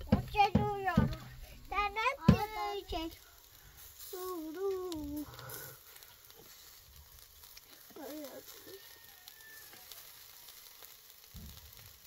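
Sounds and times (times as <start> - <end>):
light crackles: 0.0 - 12.0
meat sizzling over charcoal: 0.0 - 12.0.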